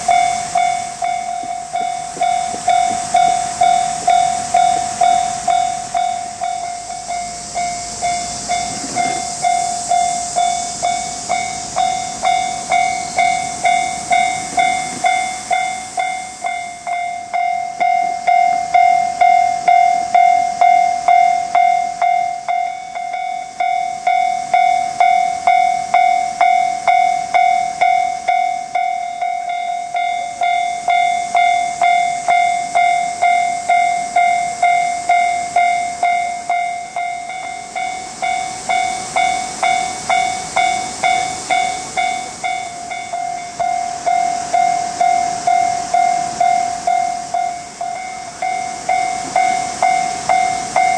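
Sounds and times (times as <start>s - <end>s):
level crossing warning bell ringing: 0.0s - 50.9s
steady hiss: 0.0s - 50.9s.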